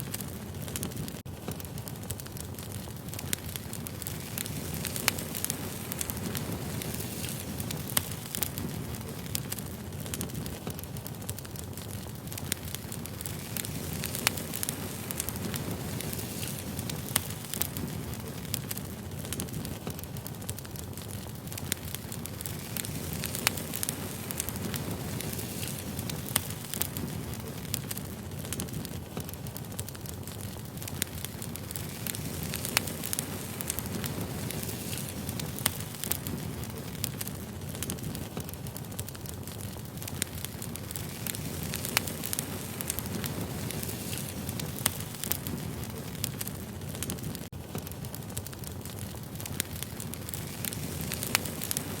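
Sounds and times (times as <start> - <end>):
low rumble of flames: 0.0 - 52.0
wood fire crackling: 0.0 - 52.0.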